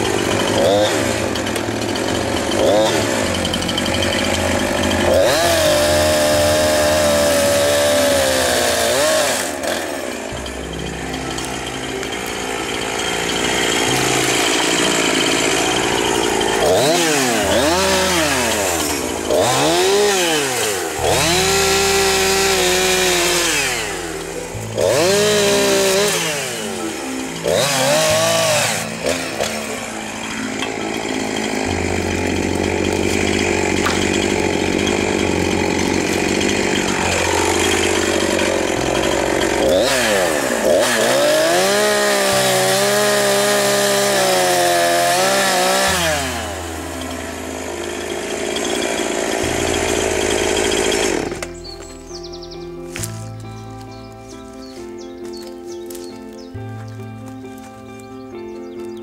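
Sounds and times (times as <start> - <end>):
chainsaw revving while cutting wood: 0.0 - 59.0.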